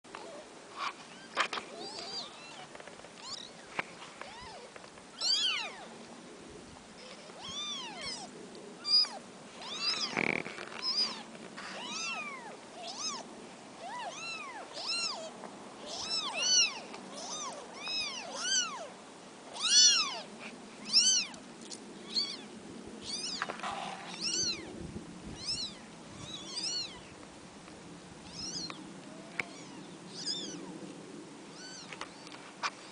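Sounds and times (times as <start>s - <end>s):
kittens mewing: 0.2s - 5.9s, 7.0s - 18.9s, 19.5s - 21.4s, 22.0s - 24.7s, 25.3s - 27.1s, 28.2s - 30.7s, 31.5s - 32.0s.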